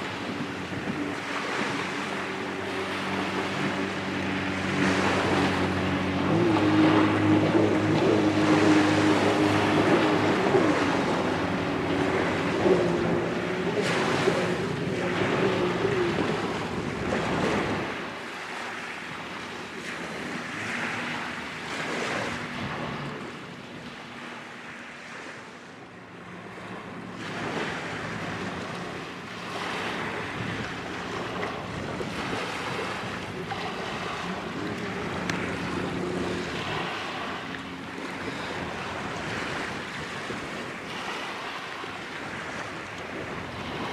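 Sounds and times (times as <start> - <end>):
boat engine running: 0.0 - 43.9
small waves: 0.0 - 43.9
wind: 0.0 - 43.9.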